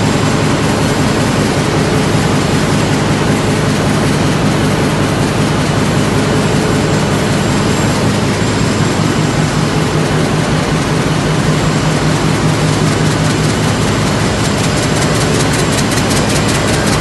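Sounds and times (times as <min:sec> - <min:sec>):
printing machine running: 0:00.0 - 0:17.0.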